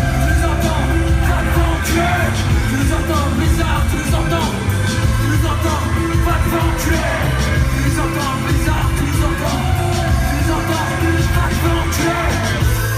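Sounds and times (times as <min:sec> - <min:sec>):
live rock band playing: 0:00.0 - 0:12.9
person singing: 0:00.0 - 0:12.9.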